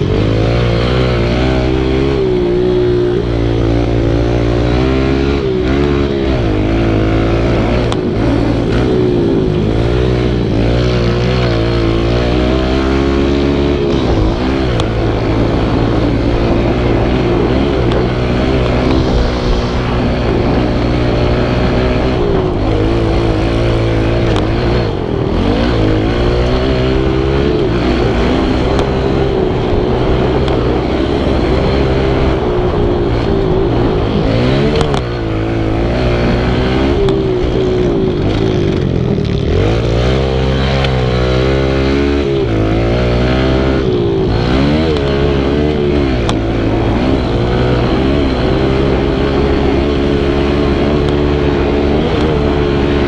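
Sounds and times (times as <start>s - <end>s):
small motorbike engine revving: 0.0s - 53.0s.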